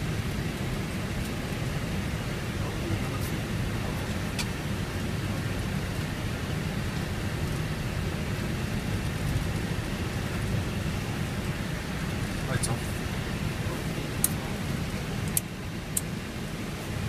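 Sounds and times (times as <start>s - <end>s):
engine and airflow roar: 0.0s - 17.0s
wheels rumbling on runway: 0.0s - 17.0s.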